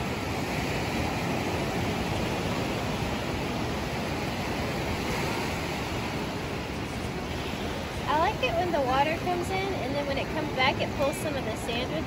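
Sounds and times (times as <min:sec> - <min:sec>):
ocean surf washing ashore: 0:00.0 - 0:12.0.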